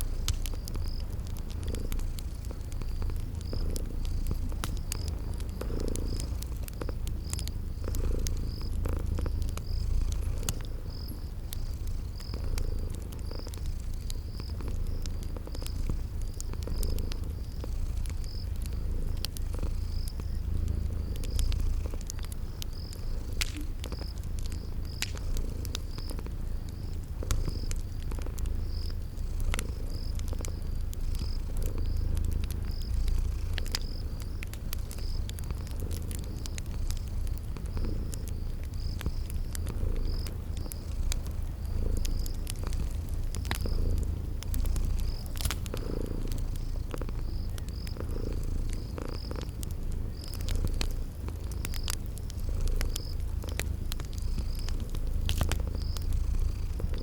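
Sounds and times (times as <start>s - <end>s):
cat purring: 0.0s - 57.0s
cricket chirping: 0.0s - 57.0s
wood fire crackling: 0.0s - 57.0s.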